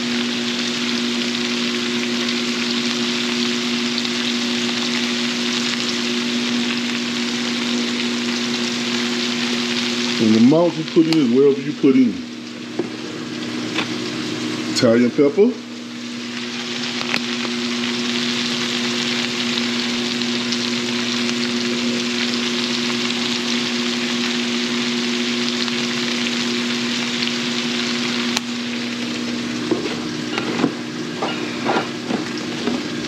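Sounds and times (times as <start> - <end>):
cabbage sizzling in a skillet: 0.0 - 33.0.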